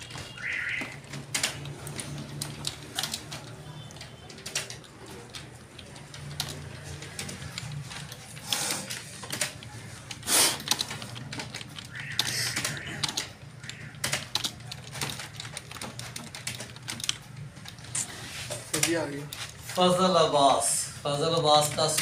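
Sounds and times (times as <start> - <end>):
computer keyboard keys typing: 0.0 - 20.5, 21.1 - 22.0.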